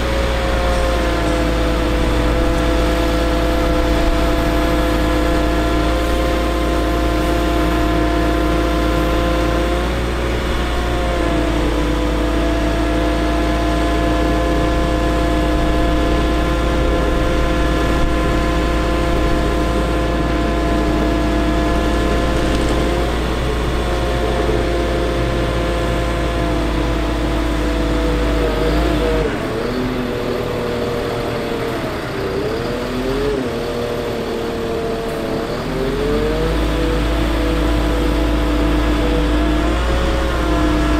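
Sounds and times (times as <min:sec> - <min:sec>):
diesel engine drone: 0:00.0 - 0:40.9
hydraulic whine: 0:00.0 - 0:40.9.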